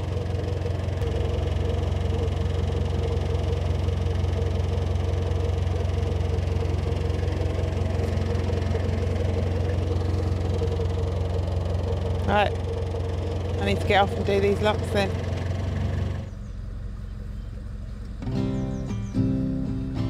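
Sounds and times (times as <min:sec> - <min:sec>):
diesel boat engine humming: 0:00.0 - 0:20.0.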